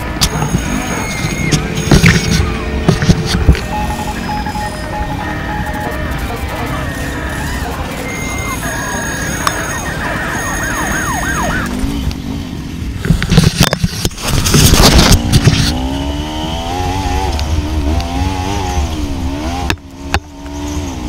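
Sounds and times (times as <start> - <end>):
utv engine running: 0.0 - 21.0.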